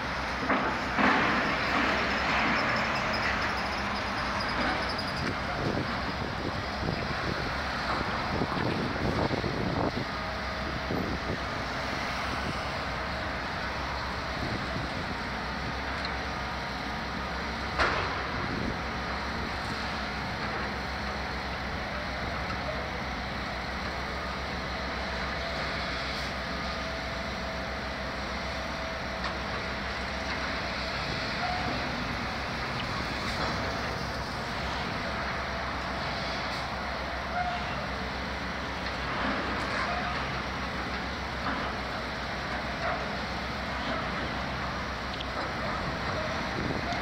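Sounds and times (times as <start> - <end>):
demolition machinery running: 0.0 - 47.0
street traffic: 0.0 - 47.0.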